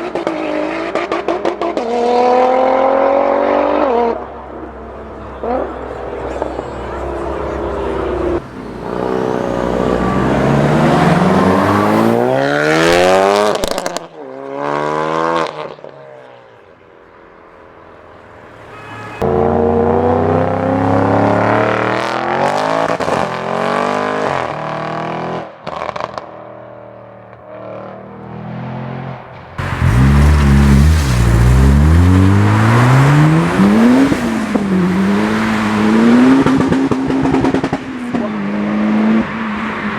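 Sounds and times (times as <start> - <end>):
car engines accelerating hard: 0.0 - 15.8, 19.2 - 39.9.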